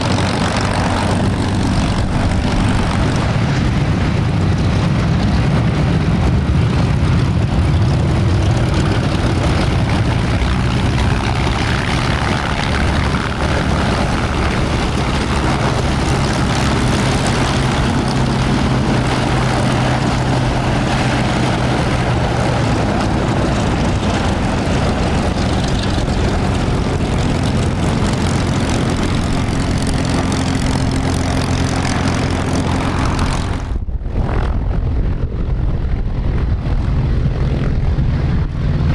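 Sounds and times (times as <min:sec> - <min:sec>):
propeller plane engines droning: 0:00.0 - 0:38.9.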